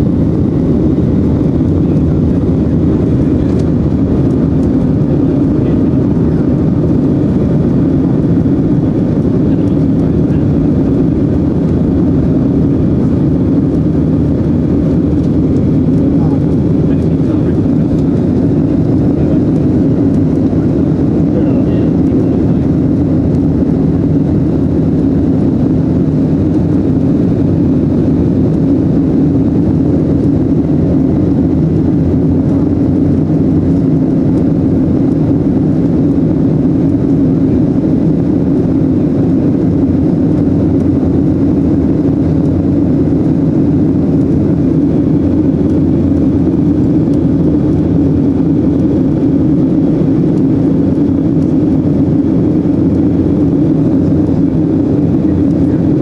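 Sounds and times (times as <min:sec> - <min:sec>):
airplane cabin engine hum: 0:00.0 - 0:56.0.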